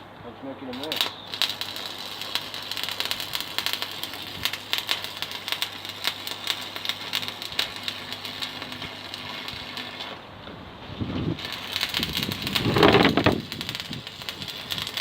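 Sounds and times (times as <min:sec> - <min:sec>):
welding arc crackling: 0:00.7 - 0:10.3, 0:11.3 - 0:15.0.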